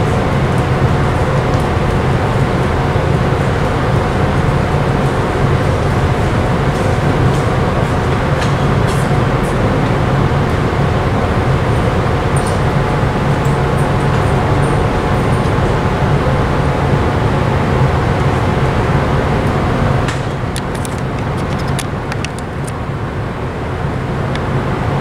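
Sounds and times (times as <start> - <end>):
distant port machinery: 0.0 - 25.0
ship engines droning: 0.0 - 25.0.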